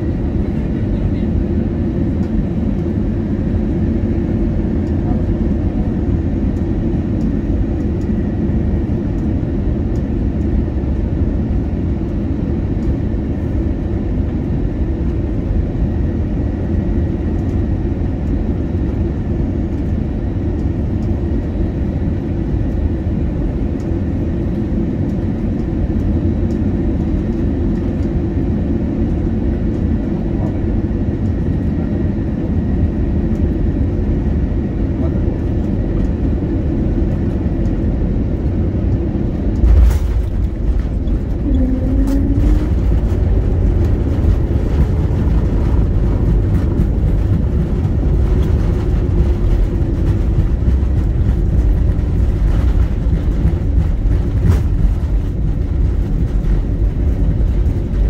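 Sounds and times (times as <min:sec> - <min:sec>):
airliner cabin roar: 0:00.0 - 0:58.0
faint high engine whine: 0:00.0 - 0:58.0.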